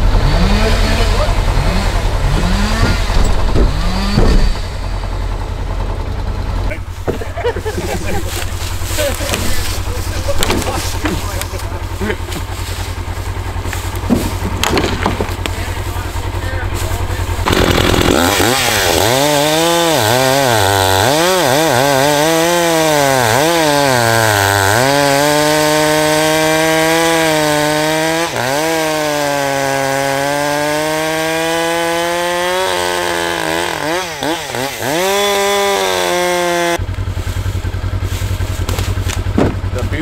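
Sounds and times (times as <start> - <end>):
chainsaw cutting log: 0.0 - 40.0.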